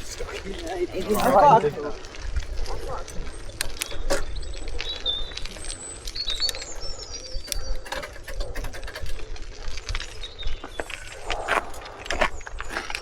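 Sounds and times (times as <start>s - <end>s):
birds chirping: 0.0s - 13.0s
sharp clicks: 2.3s - 13.0s.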